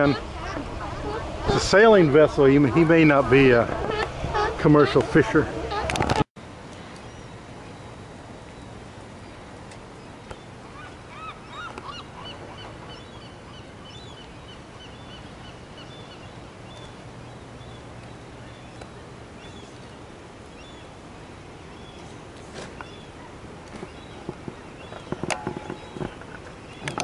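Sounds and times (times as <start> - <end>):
bird calling: 0.0 - 6.0, 10.1 - 21.0, 21.7 - 27.0
outdoor background noise: 0.0 - 27.0.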